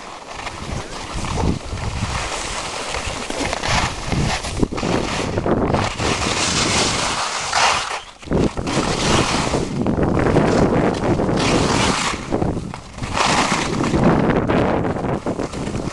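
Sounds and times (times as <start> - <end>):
skis scraping over snow: 0.0 - 15.9
wind rushing over microphone: 0.0 - 15.9.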